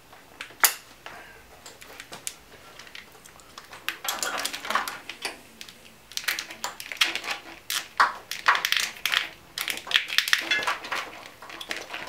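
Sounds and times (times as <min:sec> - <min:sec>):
plastic conduit crinkling and clicking: 0:00.0 - 0:12.0.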